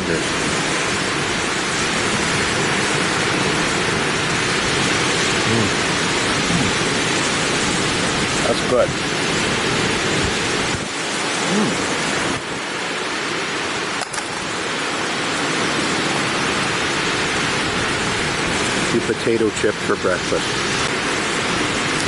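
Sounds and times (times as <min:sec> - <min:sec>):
high wind: 0:00.0 - 0:22.0
rain: 0:00.0 - 0:22.0.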